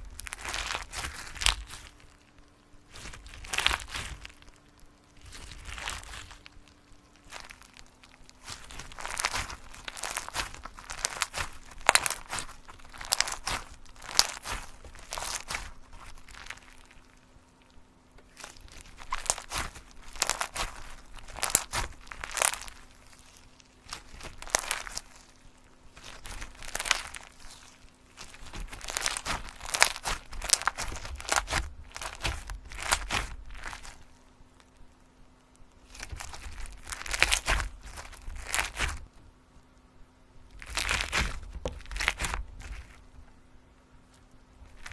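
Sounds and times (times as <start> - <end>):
crinkling handling sounds: 0.0 - 44.9
faint steady hum: 0.0 - 44.9.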